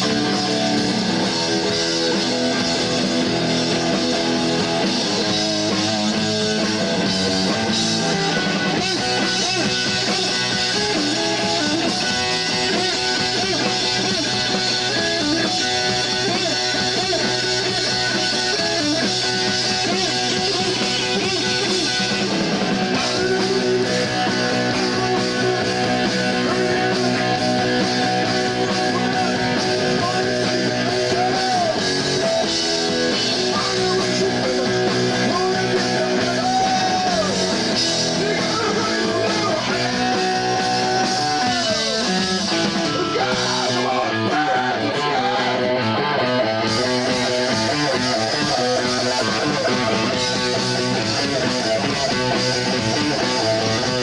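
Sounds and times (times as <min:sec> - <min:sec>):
live punk rock band: 0:00.0 - 0:54.0.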